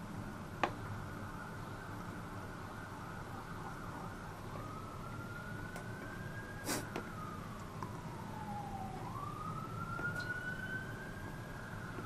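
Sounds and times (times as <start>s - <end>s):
siren wailing: 1.0s - 12.0s.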